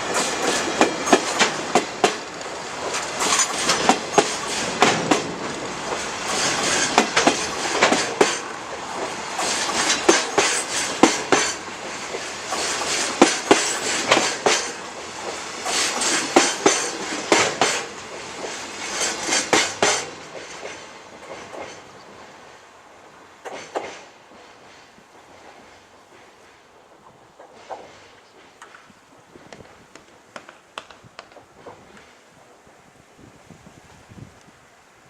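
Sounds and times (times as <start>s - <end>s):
train wheels clattering over rail joints: 0.0s - 22.7s, 23.3s - 32.8s
rumble of running train wheels: 0.0s - 34.0s.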